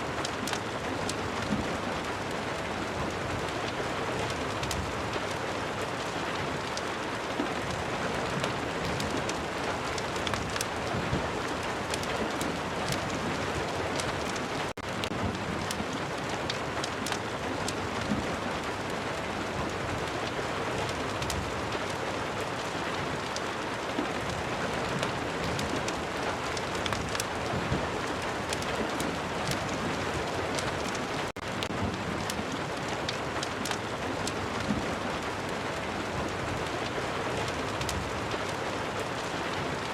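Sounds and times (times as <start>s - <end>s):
crackling fire: 0.0s - 39.9s
steady rain: 0.0s - 39.9s.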